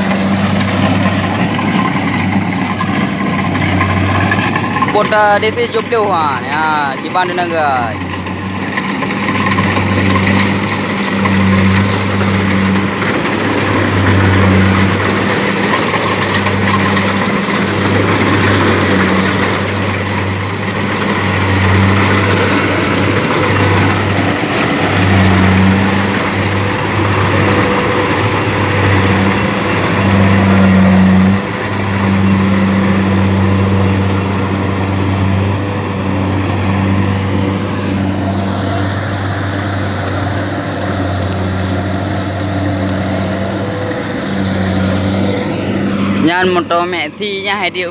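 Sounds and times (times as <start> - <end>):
diesel engine low hum: 0.0 - 47.9
machine clatter and whir: 0.0 - 47.9.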